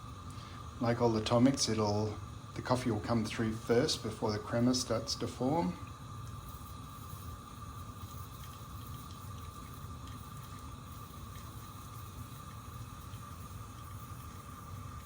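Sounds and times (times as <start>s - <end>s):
stovetop espresso maker bubbling: 0.0s - 15.0s.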